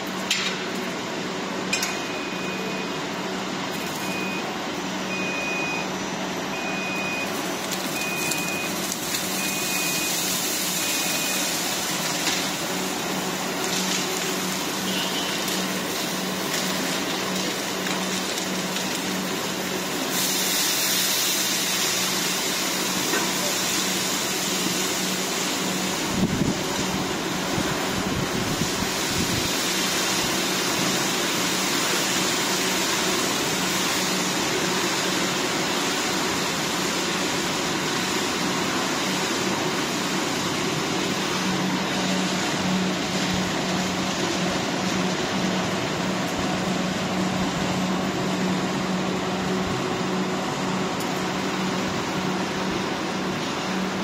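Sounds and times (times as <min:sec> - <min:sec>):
machinery whirring: 0:00.0 - 0:54.0.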